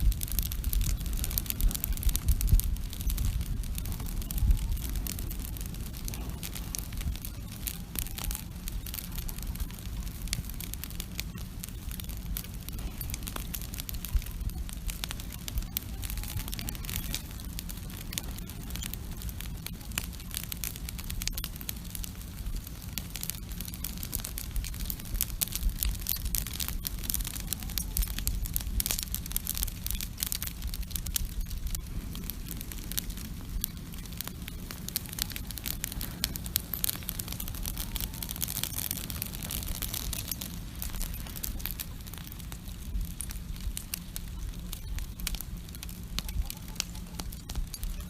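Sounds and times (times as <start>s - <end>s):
campfire crackling and popping: 0.0s - 48.0s
low steady rumble: 0.0s - 48.0s.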